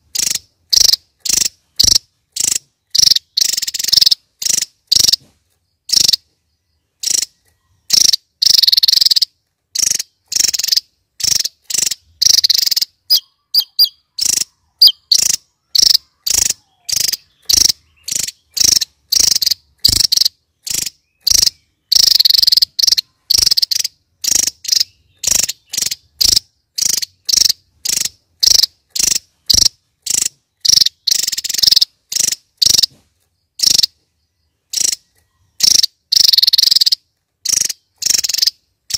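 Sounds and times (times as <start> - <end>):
bird singing high phrases: 0.0 - 38.9.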